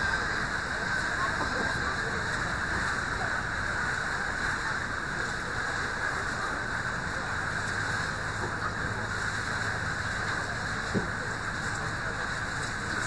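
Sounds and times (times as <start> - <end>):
boat engine humming: 0.0 - 13.0
water rushing along hull: 0.0 - 13.0.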